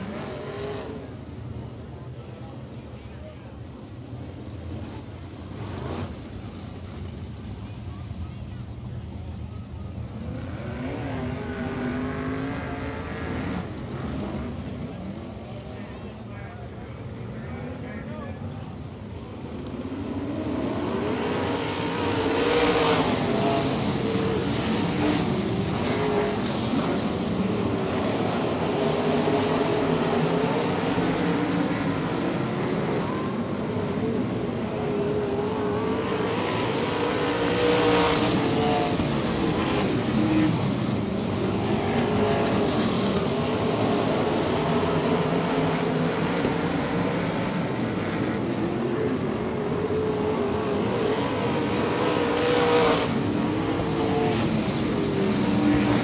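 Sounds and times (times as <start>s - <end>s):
cars passing close: 0.0s - 56.0s
race car engines: 0.0s - 56.0s.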